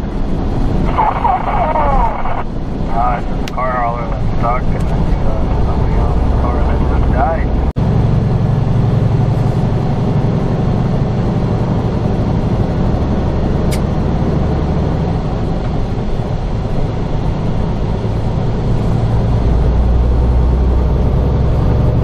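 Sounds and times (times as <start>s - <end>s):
diesel truck engine running: 0.0s - 22.0s
road noise: 0.0s - 22.0s.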